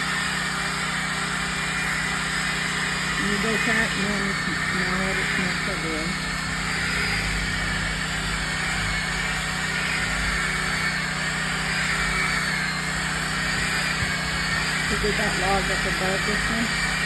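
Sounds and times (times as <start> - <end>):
power sander on wood: 0.0 - 17.0.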